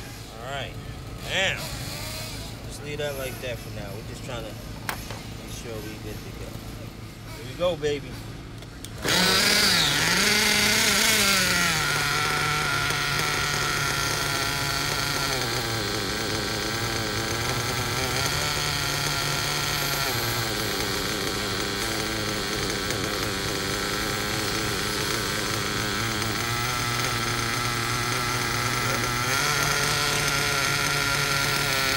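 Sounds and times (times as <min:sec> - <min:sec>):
nitro rc engine running: 0:00.0 - 0:31.9.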